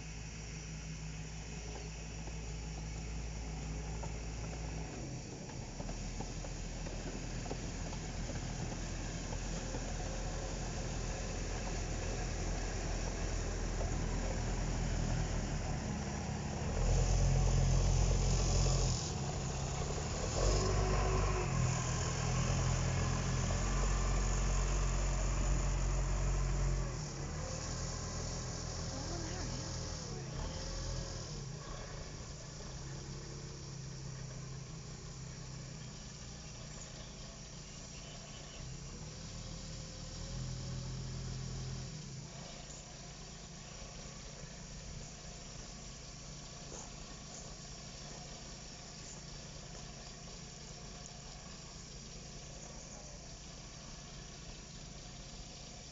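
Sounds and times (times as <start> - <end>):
diesel locomotive engine: 0.0 - 55.9.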